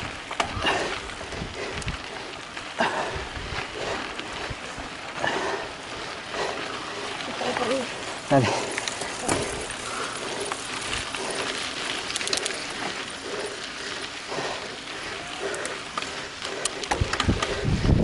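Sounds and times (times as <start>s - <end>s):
bike tyres on dirt trail: 0.0s - 18.0s
small rattles and clicks: 0.0s - 18.0s.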